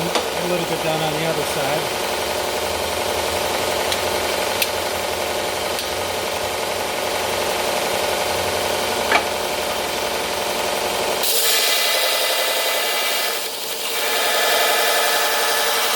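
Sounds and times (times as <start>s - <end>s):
belt sander running: 0.0s - 15.9s.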